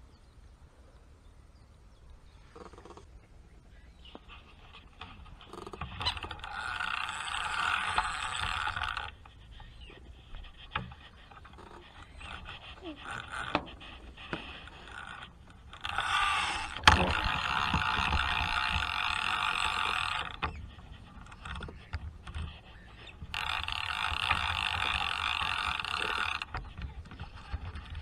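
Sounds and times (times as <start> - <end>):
fishing reel gear whirr: 4.9 - 28.0.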